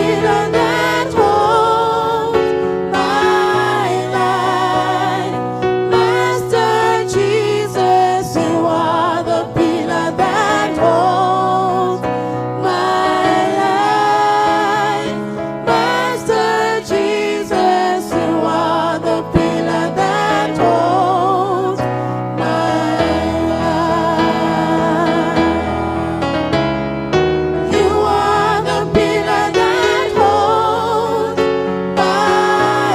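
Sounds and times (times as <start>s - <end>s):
several voices singing gospel: 0.0s - 32.9s.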